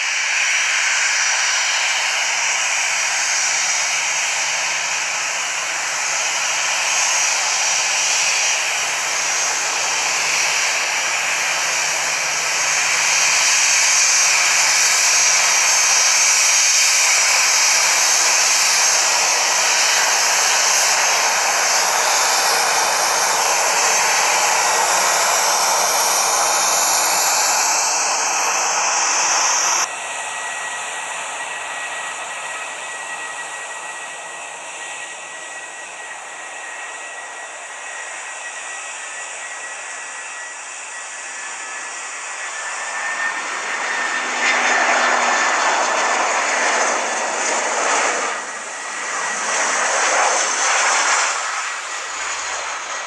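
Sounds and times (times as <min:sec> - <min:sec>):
airliner on approach whine: 0:00.0 - 0:53.0
jet engines taxiing: 0:00.0 - 0:53.0.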